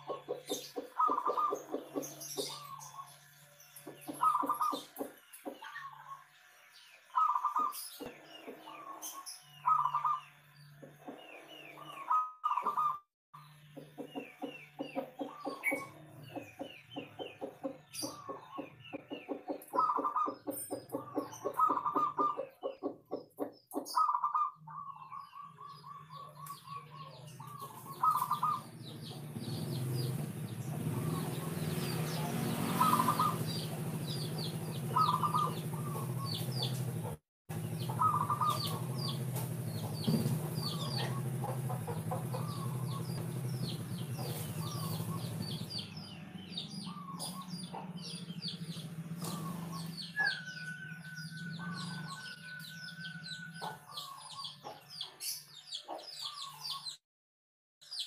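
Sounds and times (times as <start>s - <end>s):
dove cooing: 0.0s - 3.0s, 3.9s - 6.2s, 7.2s - 13.0s, 13.8s - 45.6s, 46.8s - 52.6s.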